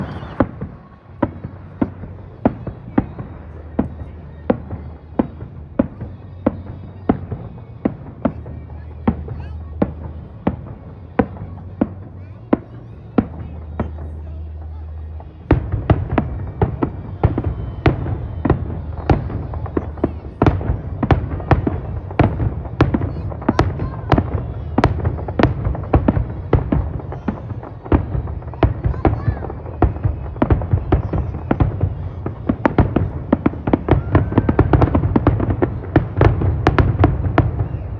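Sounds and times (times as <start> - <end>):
continuous low rumble: 0.0 - 37.9
fireworks bangs with echo: 0.0 - 37.9.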